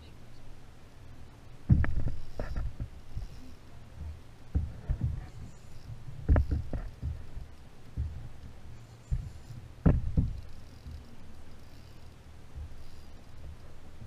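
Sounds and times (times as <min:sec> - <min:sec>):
water rumbling against boat: 0:01.6 - 0:14.0.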